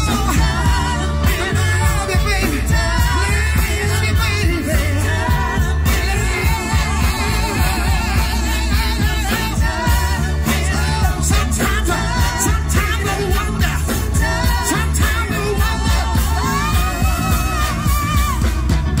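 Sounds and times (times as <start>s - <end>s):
vocalists singing together: 0.0s - 18.7s
live horn band playing: 0.0s - 19.0s.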